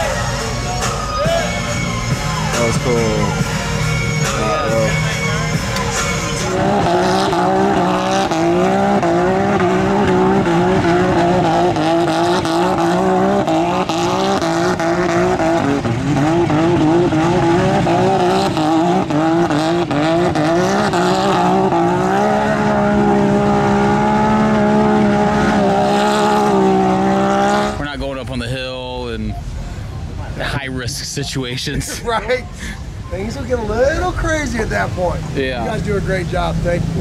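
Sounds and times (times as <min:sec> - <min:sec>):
utility vehicle engine revving: 0:00.0 - 0:30.4.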